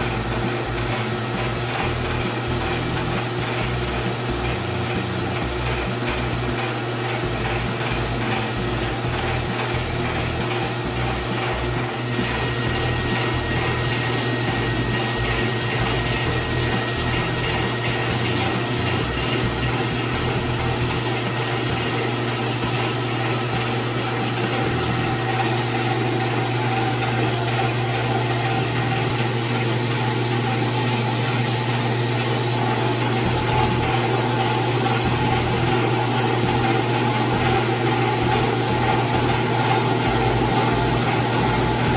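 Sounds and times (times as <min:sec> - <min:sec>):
oil press humming: 0:00.0 - 0:41.9.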